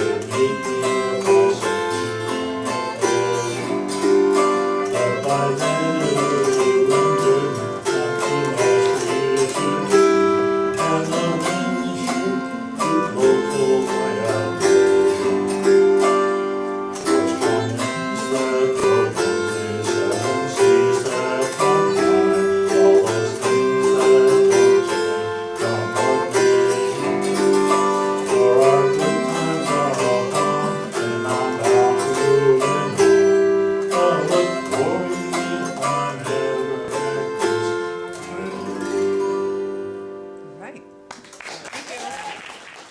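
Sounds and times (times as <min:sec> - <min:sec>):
acoustic guitar strumming: 0:00.0 - 0:41.3.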